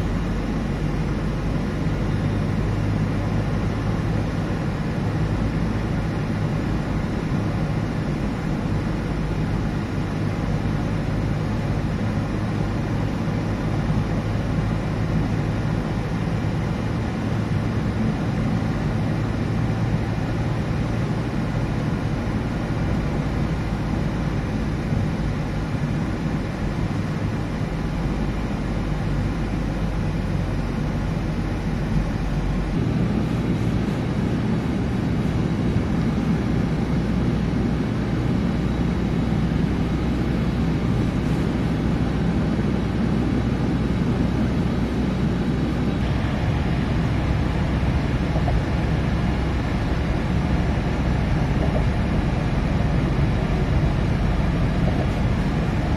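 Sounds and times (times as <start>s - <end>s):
car tyre and engine rumble: 0.0s - 55.9s.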